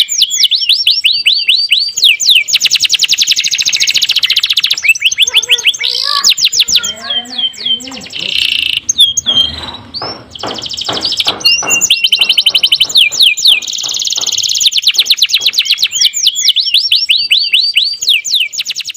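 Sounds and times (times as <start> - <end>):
canary singing: 0.0 - 18.9.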